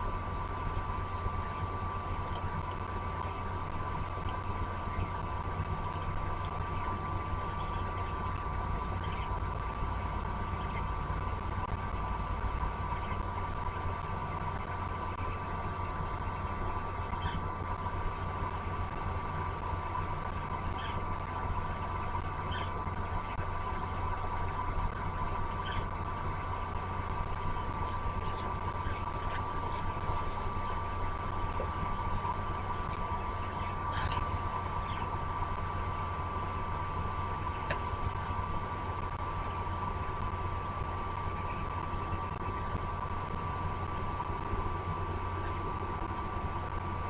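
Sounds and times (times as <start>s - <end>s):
low rumble with high hum: 0.0s - 47.0s.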